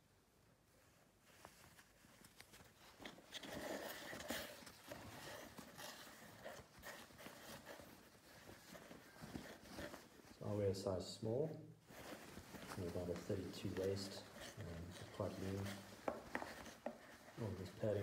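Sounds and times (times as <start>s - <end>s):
fabric and packaging rustling: 0.6s - 18.0s
small clicks and crinkles: 0.8s - 10.4s, 11.8s - 18.0s.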